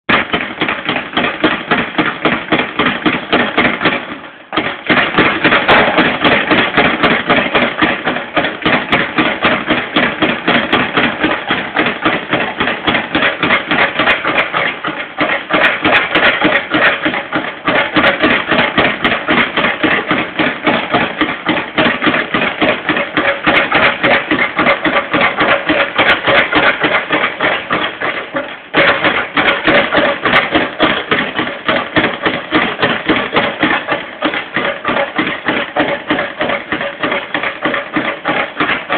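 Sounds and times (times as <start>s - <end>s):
speed bag rattling: 0.1s - 38.9s.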